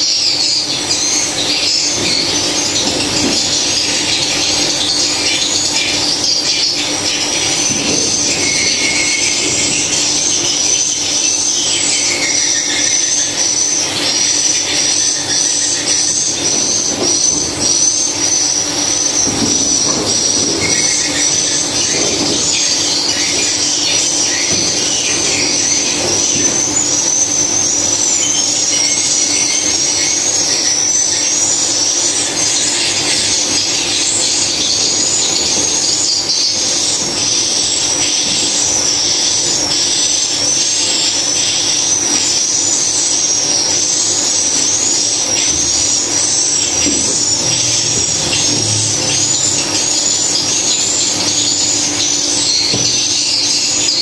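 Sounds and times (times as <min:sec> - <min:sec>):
swiftlets twittering: 0:00.0 - 0:54.0.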